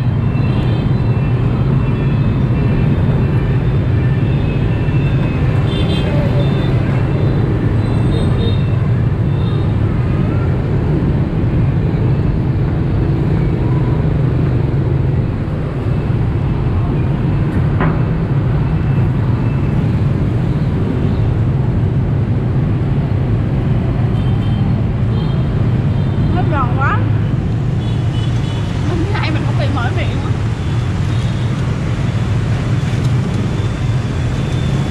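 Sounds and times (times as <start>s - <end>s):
city traffic hum: 0.0s - 34.9s
motorbike and car engines passing: 0.0s - 34.9s.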